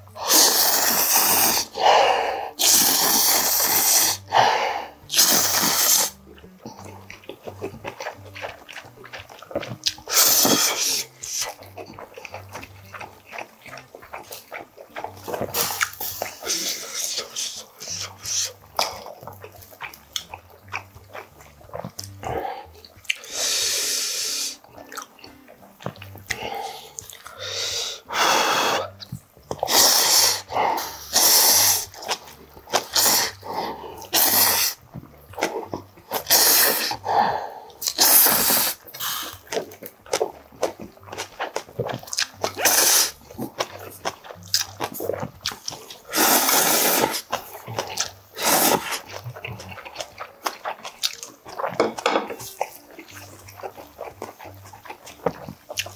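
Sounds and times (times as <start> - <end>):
person slurping noodles: 0.0 - 7.1, 9.7 - 19.1, 22.2 - 24.6, 26.3 - 29.0, 29.6 - 34.8, 35.4 - 55.9
person chewing: 0.0 - 55.9.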